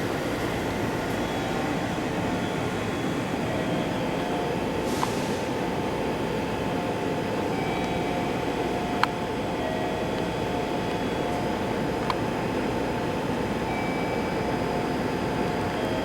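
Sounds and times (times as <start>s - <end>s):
train hum and rumble: 0.0s - 16.0s.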